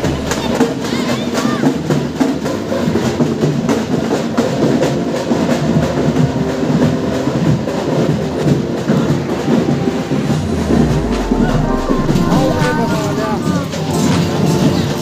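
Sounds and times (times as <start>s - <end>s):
crowd of overlapping voices: 0.0s - 15.0s
music with drum beats: 0.0s - 15.0s.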